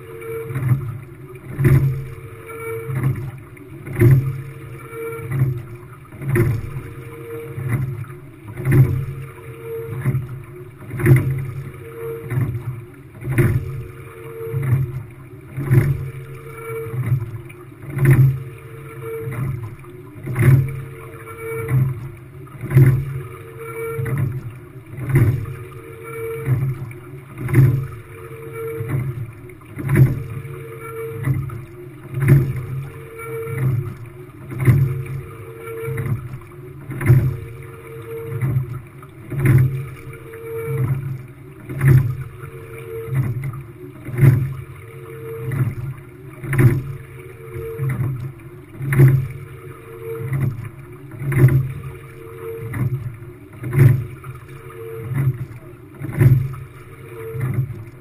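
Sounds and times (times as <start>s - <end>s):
oars clacking in oarlocks: 0.0s - 58.0s
water rushing along hull: 0.0s - 58.0s.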